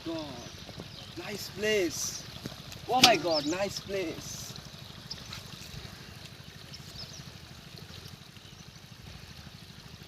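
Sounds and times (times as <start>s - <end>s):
low steady rumble: 0.0s - 10.0s
water trickling: 0.0s - 10.0s.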